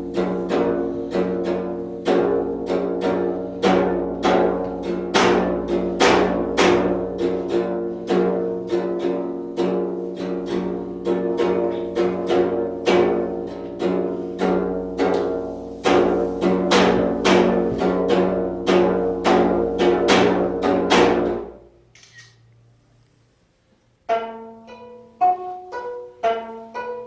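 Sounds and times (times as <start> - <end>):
zither plucked strings: 0.0 - 22.5, 24.0 - 27.0.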